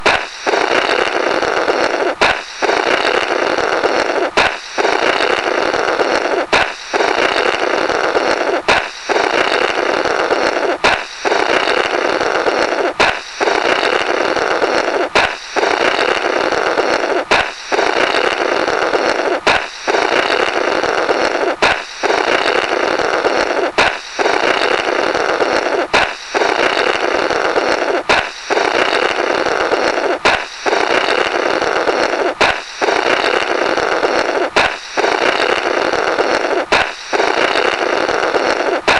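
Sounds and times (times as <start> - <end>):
air blown through burst balloon: 0.0 - 38.9
balloon popping: 0.0 - 38.9.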